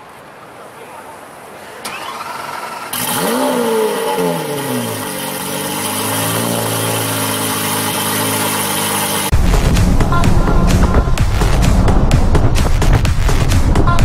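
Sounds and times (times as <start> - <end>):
car engine revving and idling: 1.8 - 14.0.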